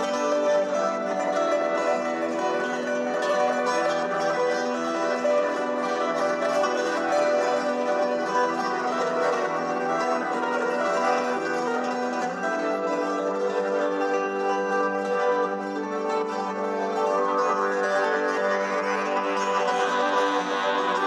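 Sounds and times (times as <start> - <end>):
plucked string instrument melody: 0.0 - 21.0.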